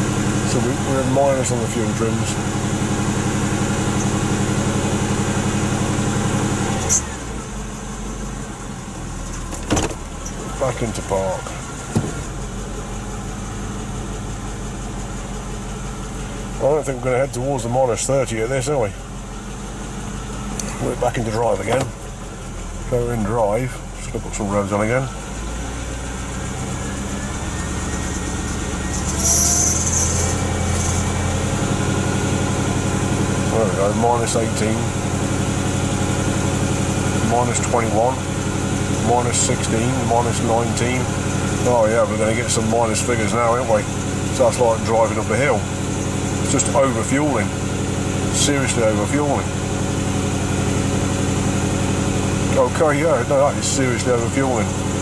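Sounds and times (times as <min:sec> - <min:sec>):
car engine at raised revs: 0:00.0 - 0:55.0.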